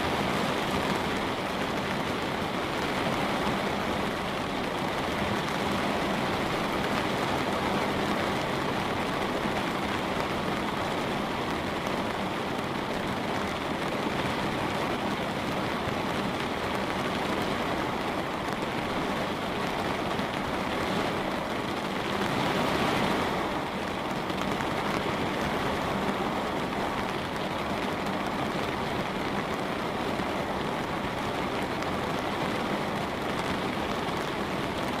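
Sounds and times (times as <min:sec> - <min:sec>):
rain on a window pane: 0:00.0 - 0:35.0.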